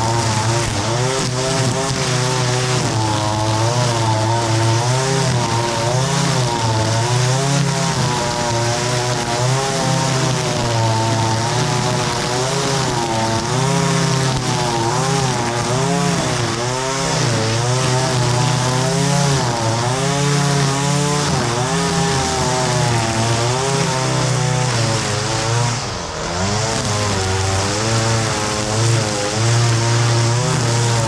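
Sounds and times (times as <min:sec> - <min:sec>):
string trimmer engine cutting grass: 0:00.0 - 0:31.0.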